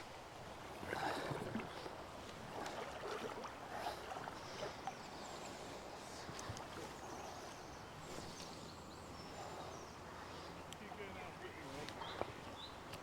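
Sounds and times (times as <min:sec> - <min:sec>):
river water sloshing and splashing: 0:00.0 - 0:10.6.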